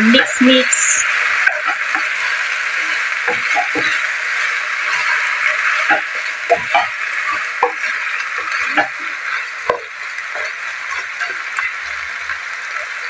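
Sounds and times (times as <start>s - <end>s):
food sizzling in a wok: 0.0s - 13.0s
spatula scraping and knocking pan: 1.4s - 12.9s.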